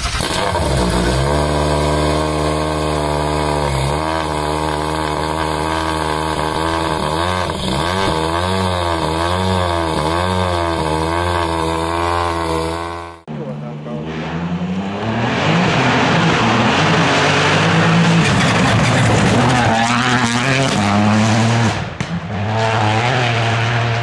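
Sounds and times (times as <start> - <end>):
engine running and wavering: 0.0 - 24.0.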